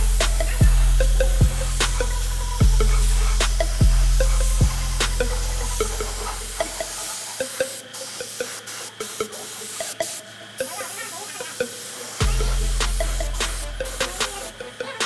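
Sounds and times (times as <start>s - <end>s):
background music with deep bass: 0.0s - 10.7s, 11.6s - 15.0s
steady hiss: 0.0s - 15.0s.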